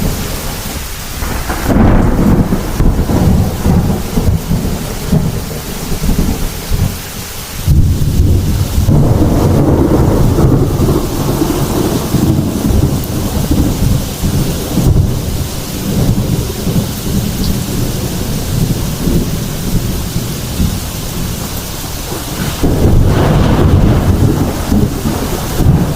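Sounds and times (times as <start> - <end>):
deep roll of thunder: 0.0 - 25.9
heavy rain: 0.0 - 25.9.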